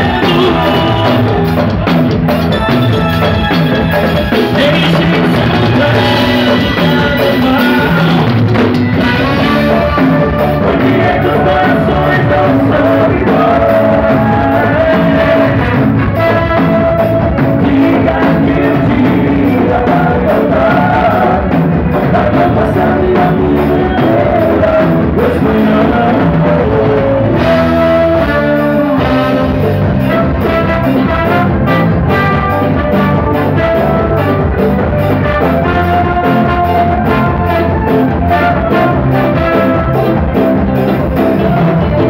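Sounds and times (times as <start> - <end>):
live band playing: 0.0 - 42.0.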